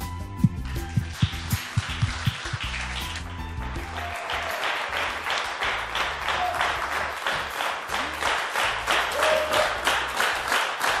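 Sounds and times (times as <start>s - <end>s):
audience clapping in rhythm: 0.0s - 11.0s
background music with low bass: 0.0s - 11.0s.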